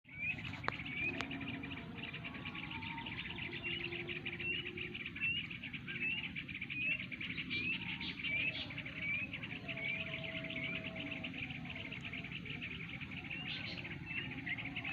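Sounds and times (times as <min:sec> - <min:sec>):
flock of birds chattering: 0:00.1 - 0:14.9.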